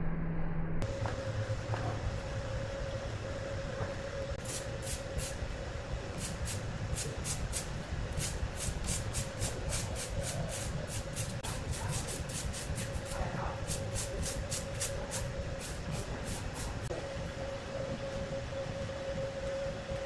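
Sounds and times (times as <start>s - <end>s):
saw machinery hum and whine: 0.0s - 20.0s.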